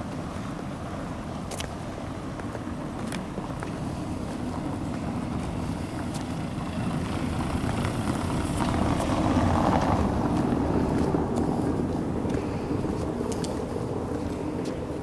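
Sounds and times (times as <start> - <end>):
car driving on cobblestones: 0.0 - 15.0.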